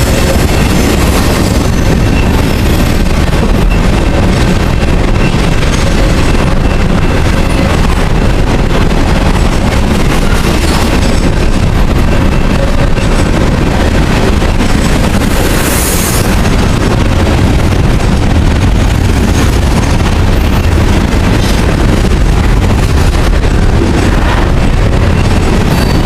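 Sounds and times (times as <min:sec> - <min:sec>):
freight train rumbling past: 0:00.0 - 0:26.0
wind buffeting microphone: 0:00.0 - 0:26.0.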